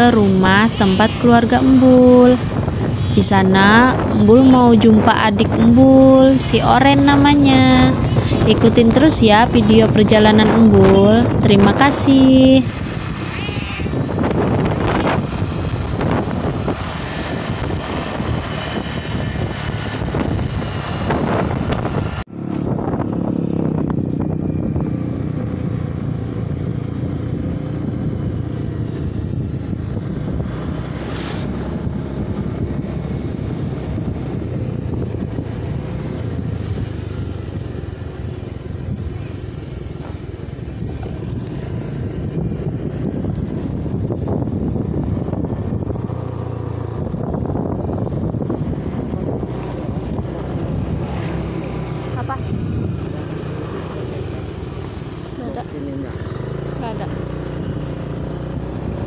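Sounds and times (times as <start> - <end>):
motorcycle engine and road noise: 0.0 - 59.0
wind buffeting microphone: 0.0 - 59.0.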